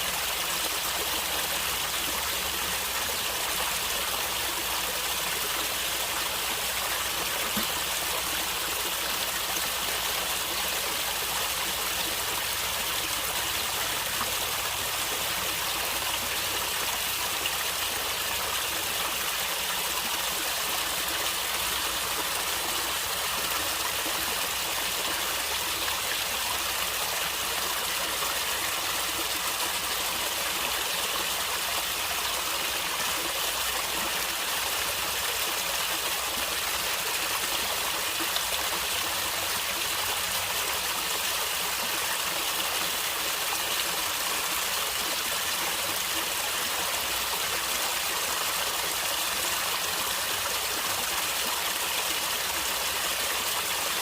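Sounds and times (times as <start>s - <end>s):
stream water flowing and gurgling: 0.0s - 54.0s.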